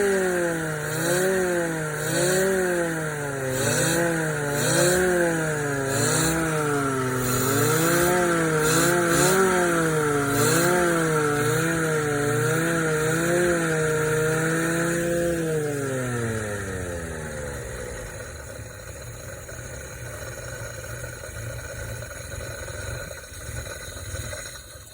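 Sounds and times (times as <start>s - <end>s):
rotary engine revving: 0.0s - 24.9s.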